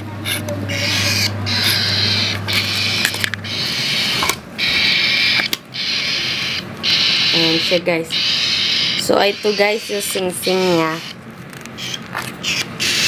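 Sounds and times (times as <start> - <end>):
bird chick raspy begging calls: 0.3 - 11.2, 11.8 - 13.0.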